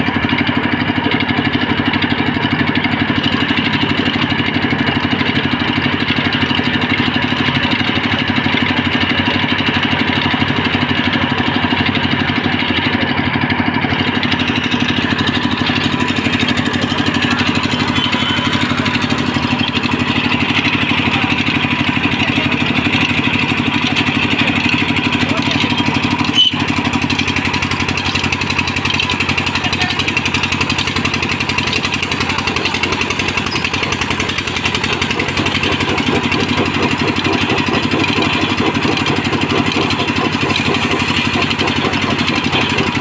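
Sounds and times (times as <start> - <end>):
band sawmill running: 0.0 - 43.0.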